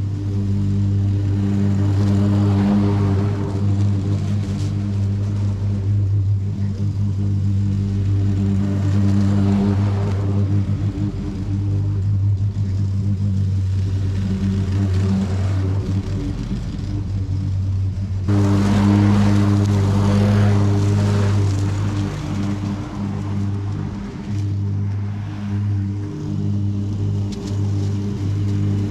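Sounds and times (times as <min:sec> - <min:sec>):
lawn mower engine running: 0:00.0 - 0:28.9.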